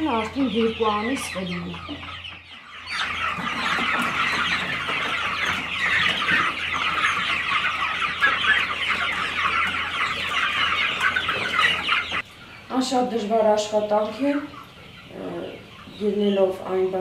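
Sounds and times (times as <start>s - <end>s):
chickens cheeping and clucking: 0.0s - 17.0s.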